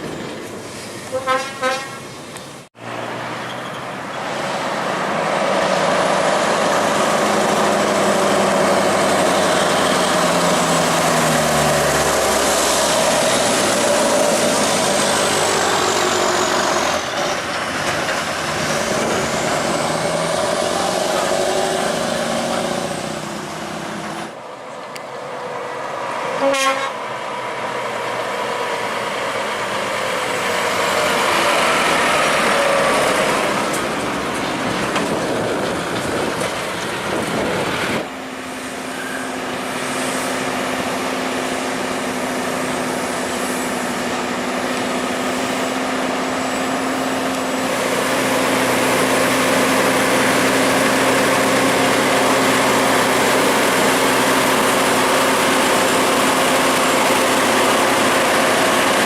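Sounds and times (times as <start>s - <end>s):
road noise: 0.0s - 59.0s
truck engine running: 4.0s - 26.2s, 27.1s - 59.0s.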